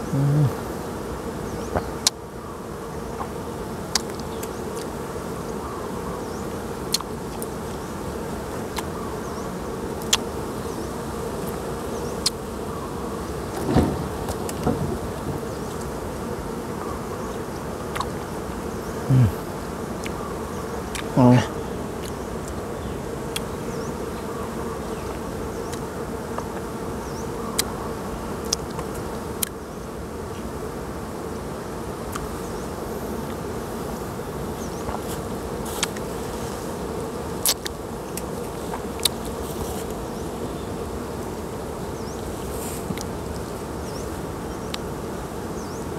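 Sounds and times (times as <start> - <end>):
honey bees buzzing: 0.0 - 45.9.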